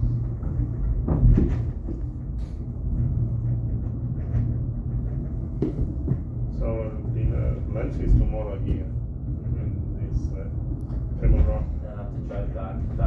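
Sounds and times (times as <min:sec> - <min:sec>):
funicular car rumbling on track: 0:00.0 - 0:13.0.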